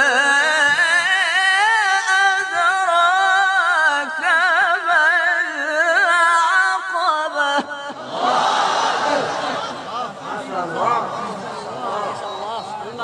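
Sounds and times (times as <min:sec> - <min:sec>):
man reciting in melodic chant: 0:00.0 - 0:08.0, 0:08.9 - 0:13.0.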